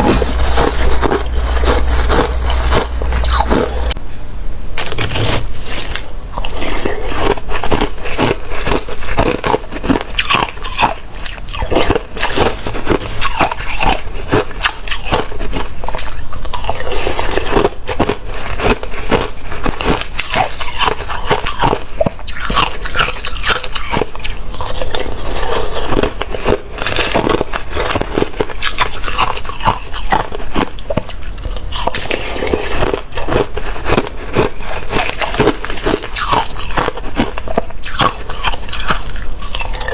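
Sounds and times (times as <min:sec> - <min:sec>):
chewing slushy ice: 0:00.0 - 0:04.0, 0:05.1 - 0:39.9.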